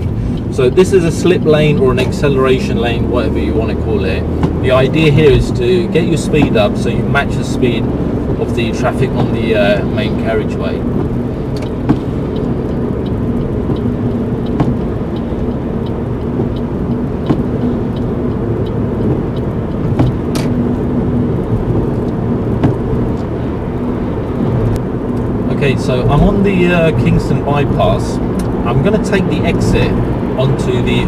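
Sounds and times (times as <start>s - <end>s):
car road noise inside cabin: 0.0s - 31.0s.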